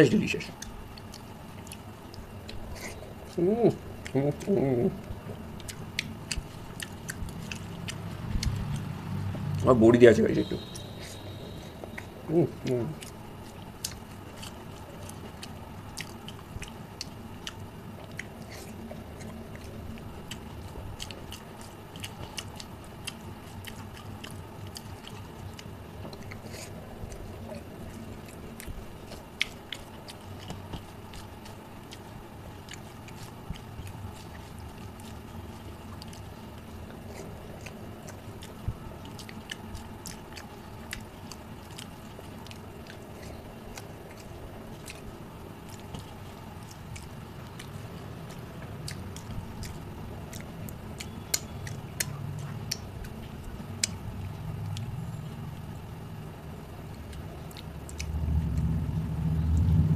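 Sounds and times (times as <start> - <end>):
person chewing: 0.2 - 59.9.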